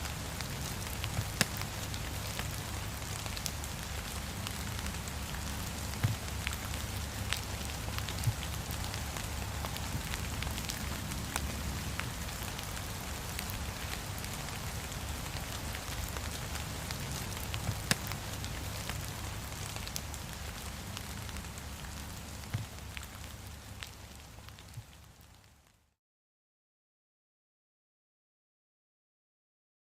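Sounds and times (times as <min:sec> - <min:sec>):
wood fire crackling and popping: 0:00.1 - 0:25.0
heavy rain on window glass: 0:00.1 - 0:25.3.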